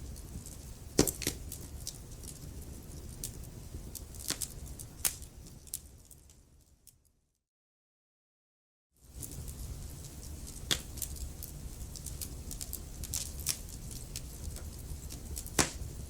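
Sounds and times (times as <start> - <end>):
wood fire crackling: 0.0 - 7.1, 9.0 - 16.0.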